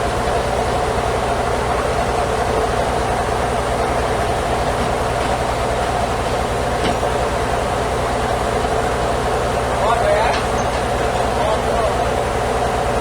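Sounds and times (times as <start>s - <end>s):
sawmill machinery droning: 0.0s - 13.0s.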